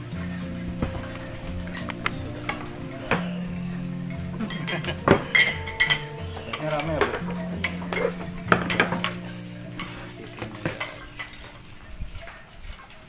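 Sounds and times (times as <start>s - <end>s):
dishes clinking on wooden table: 0.4s - 12.4s.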